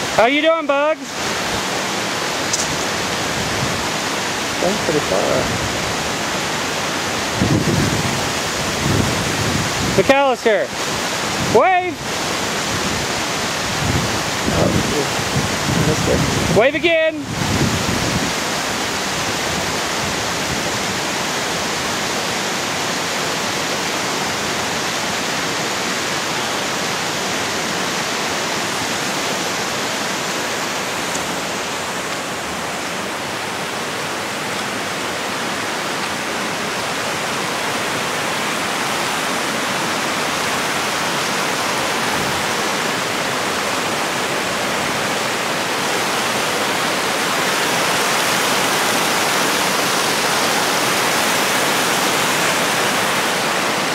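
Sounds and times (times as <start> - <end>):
creek water rushing: 0.0 - 53.9.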